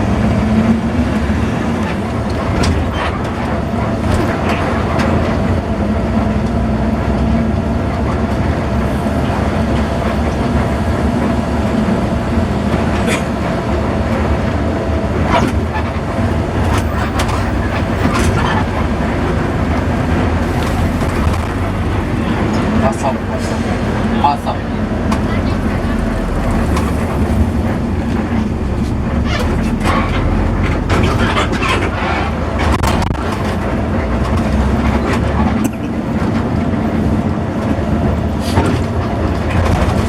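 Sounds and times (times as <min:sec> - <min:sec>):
bus engine and road rumble: 0:00.0 - 0:40.0.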